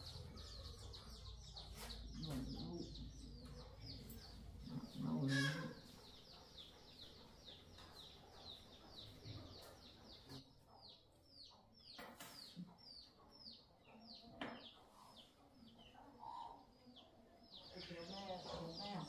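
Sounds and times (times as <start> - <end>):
faint bird chirping: 0.0 - 19.0.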